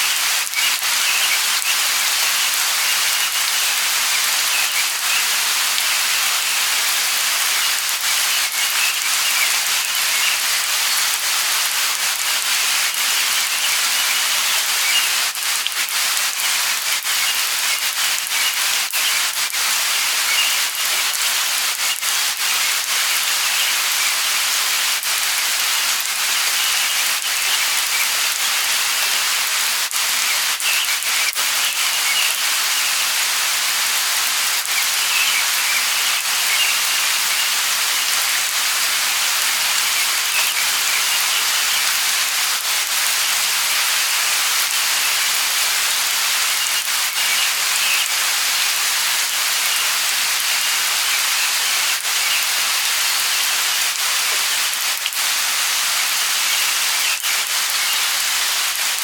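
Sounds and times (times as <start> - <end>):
light rain falling: 0.0 - 59.0
rain drop ticks: 0.0 - 59.0.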